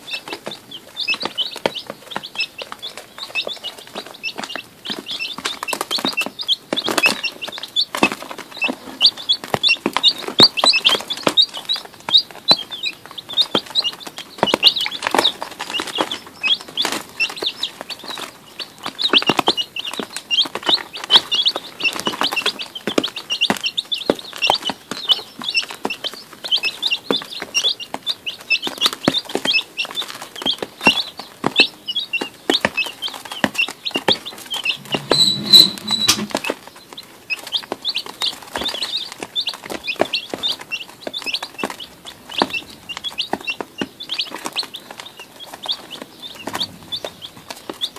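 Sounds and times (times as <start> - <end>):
beaks pecking at feed dish: 0.0 - 47.9
chicks peeping: 0.0 - 47.9.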